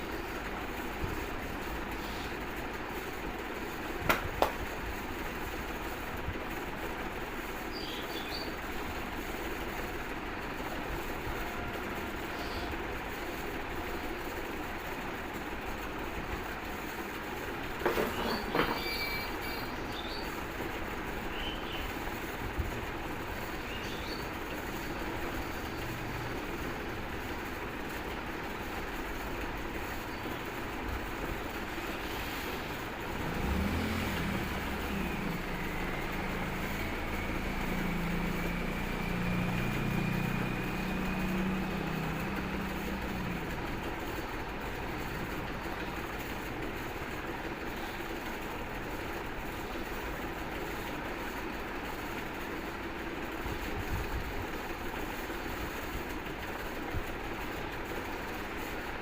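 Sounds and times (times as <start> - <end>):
low engine drone: 0.0 - 52.0
steady background noise: 0.0 - 59.0.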